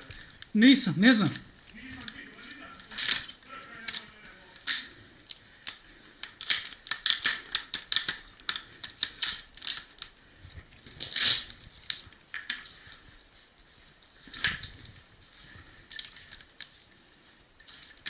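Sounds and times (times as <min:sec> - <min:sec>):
rustling clatter: 0:01.2 - 0:18.0.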